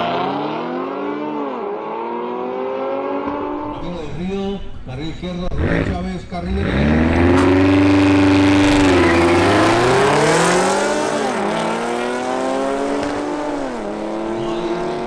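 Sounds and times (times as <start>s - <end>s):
car engines accelerating hard: 0.0s - 4.0s, 5.4s - 15.0s.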